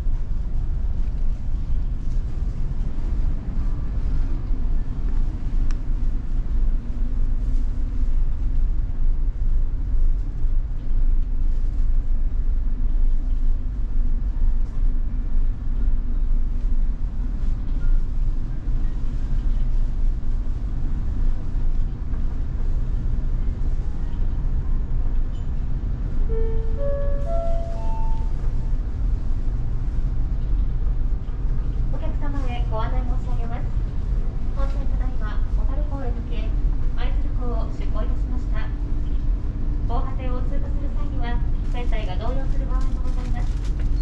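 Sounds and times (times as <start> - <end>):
low rumble of ship engines: 0.0 - 44.0.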